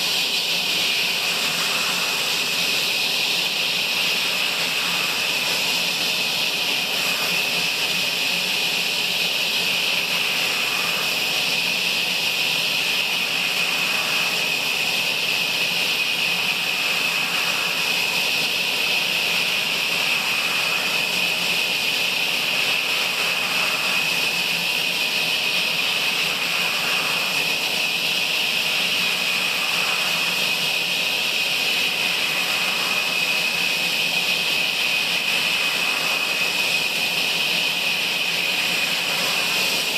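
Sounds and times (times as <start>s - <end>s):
sawmill saw cutting logs: 0.0s - 39.9s.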